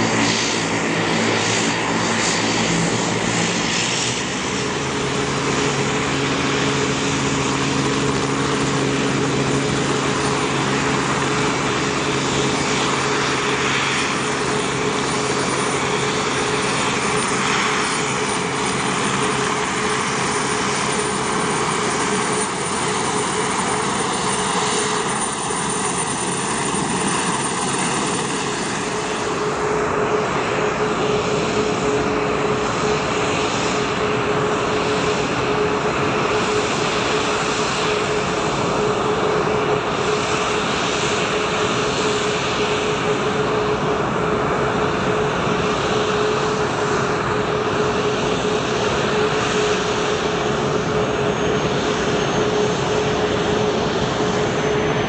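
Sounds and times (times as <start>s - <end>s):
turboprop engines running: 0.0s - 55.0s.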